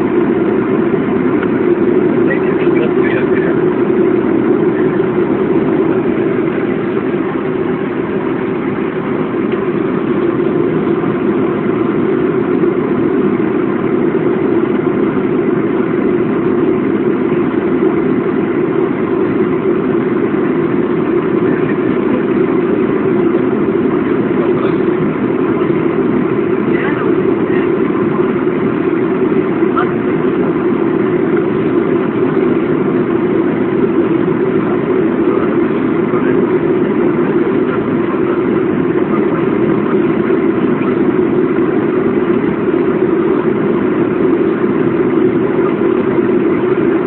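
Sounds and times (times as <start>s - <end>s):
airliner cabin engine drone: 0.0s - 47.0s.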